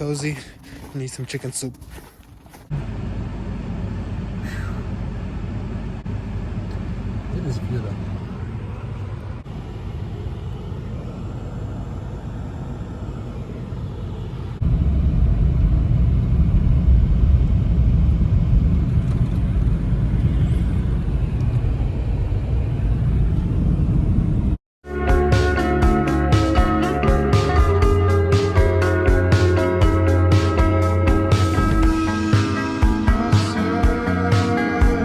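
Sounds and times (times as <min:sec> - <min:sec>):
car engine rumbling: 0:00.0 - 0:24.6, 0:29.0 - 0:35.0.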